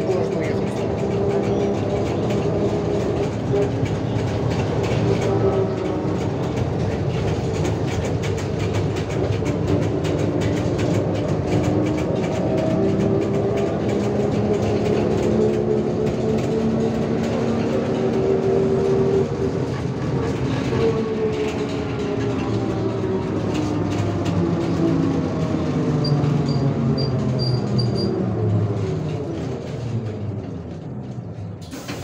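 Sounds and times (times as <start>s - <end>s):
road and tyre noise: 0.0s - 32.0s.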